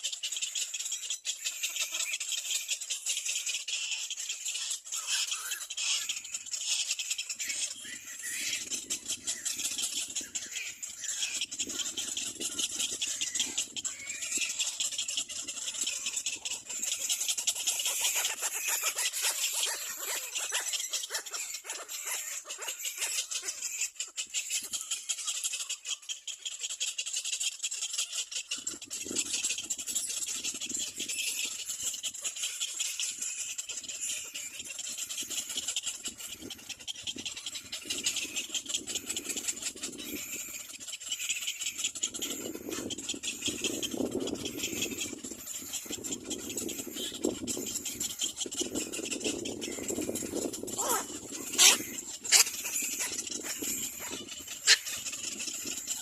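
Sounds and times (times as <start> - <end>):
chicks rattling chatter: 0.0 - 56.0
lower bird calls: 0.0 - 56.0.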